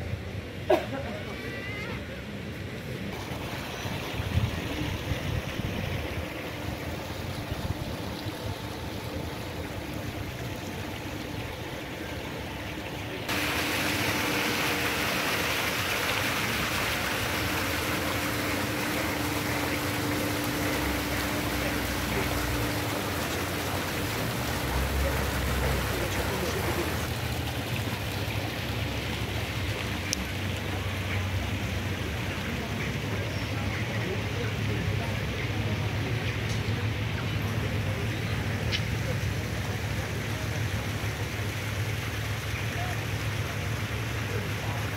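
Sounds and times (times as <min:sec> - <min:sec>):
distant city traffic rumble: 0:00.0 - 0:44.9
fountain jets splashing: 0:00.0 - 0:44.9.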